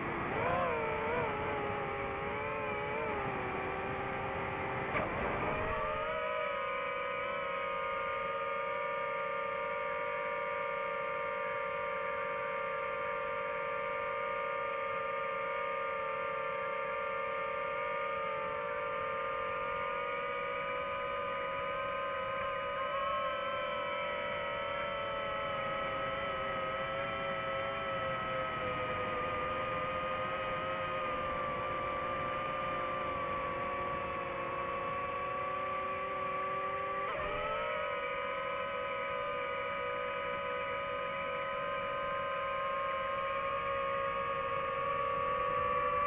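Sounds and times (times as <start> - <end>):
drone propellers whining: 0.0 - 46.0.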